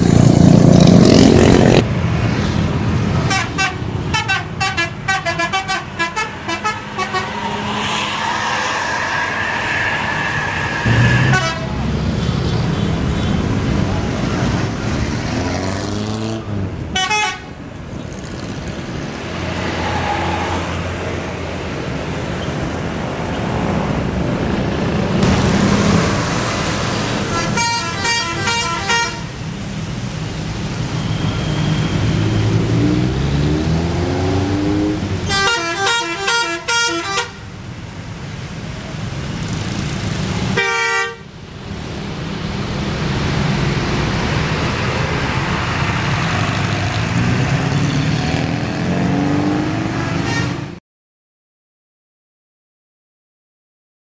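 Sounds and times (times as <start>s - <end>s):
street traffic: 0.0s - 50.8s.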